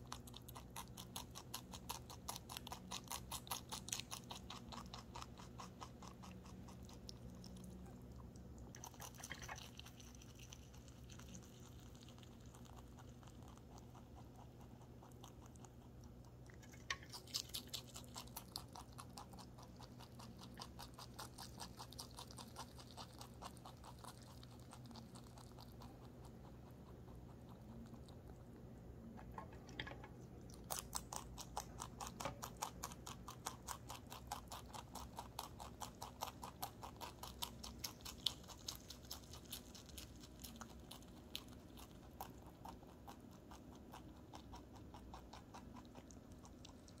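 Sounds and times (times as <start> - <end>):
rabbit chewing leaves: 0.0 - 47.0.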